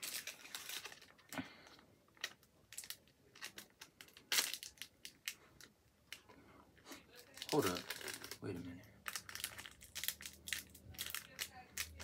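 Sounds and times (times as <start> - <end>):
plastic snack packet crinkling: 0.0 - 12.0.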